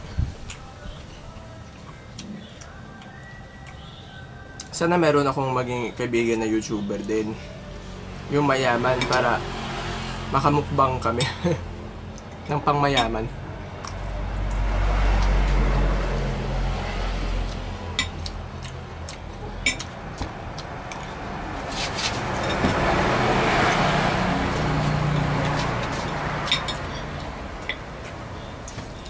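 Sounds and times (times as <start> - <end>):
traffic going past: 0.0 - 29.0.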